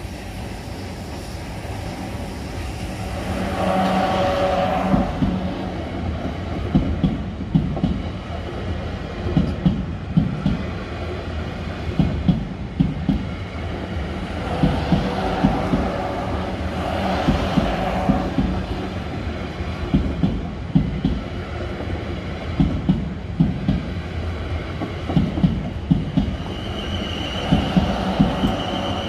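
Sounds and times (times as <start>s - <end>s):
train rumbling past: 0.0s - 29.0s
train whine: 0.0s - 29.0s.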